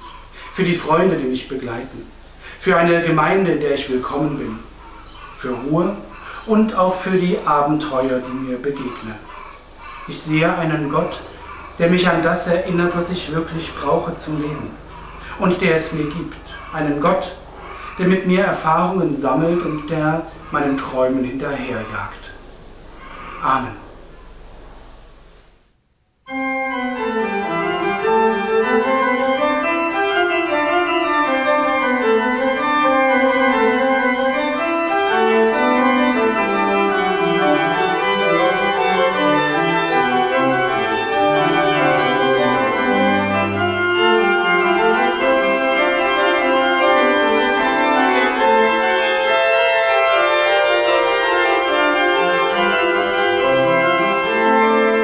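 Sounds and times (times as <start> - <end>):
organ music: 0.0 - 24.6, 26.3 - 55.0.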